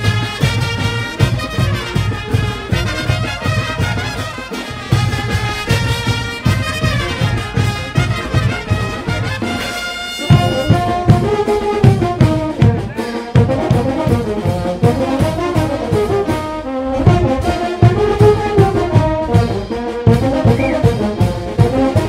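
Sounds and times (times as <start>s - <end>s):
bass drum beat: 0.0s - 22.0s
brass band playing: 0.0s - 22.0s.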